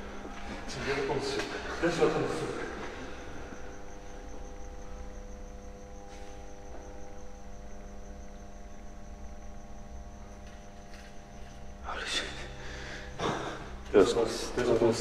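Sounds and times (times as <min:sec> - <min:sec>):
high pulsing whine: 0:00.0 - 0:15.0
steady hum of held tones: 0:00.0 - 0:15.0.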